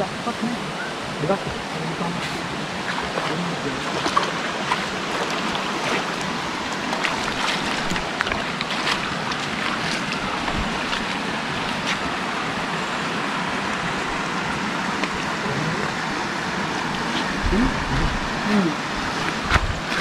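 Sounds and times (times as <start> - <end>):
stream water rushing over rocks: 0.0 - 20.0
small water splashes: 0.8 - 17.6.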